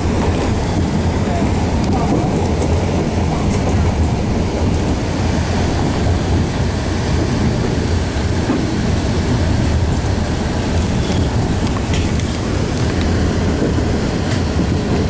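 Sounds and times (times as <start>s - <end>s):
train coach rumbling on track: 0.0s - 15.0s.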